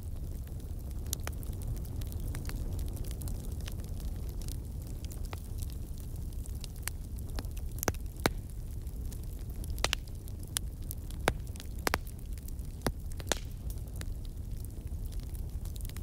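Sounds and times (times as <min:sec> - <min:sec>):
crackling fire: 0:00.0 - 0:16.0.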